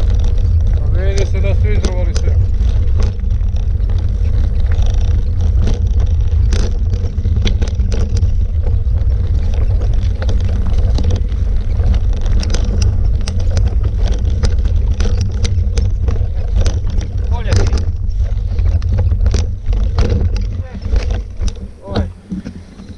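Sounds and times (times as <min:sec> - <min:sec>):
bike clicks and rattles: 0:00.0 - 0:22.9
wind rumbling on microphone: 0:00.0 - 0:22.9.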